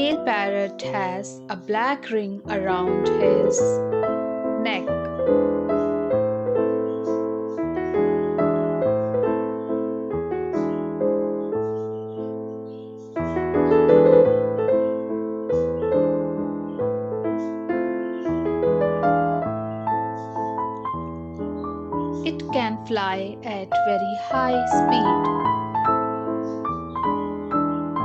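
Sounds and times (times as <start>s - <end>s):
piano melody over bass line: 0.0s - 28.0s.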